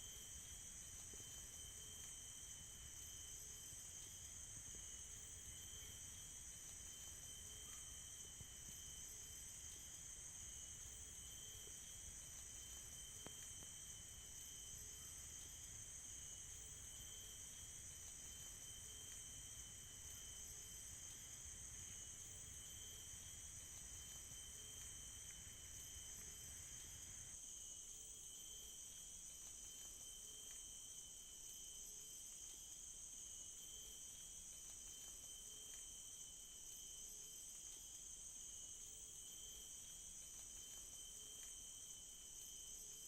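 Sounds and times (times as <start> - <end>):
insects trilling: 0.0 - 43.0
lower insect trill: 0.0 - 43.0.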